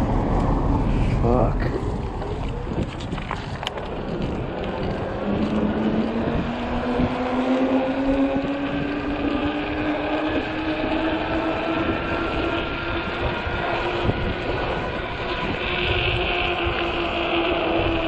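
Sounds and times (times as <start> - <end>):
wind: 0.0 - 18.0
electric motor whining: 1.9 - 18.0.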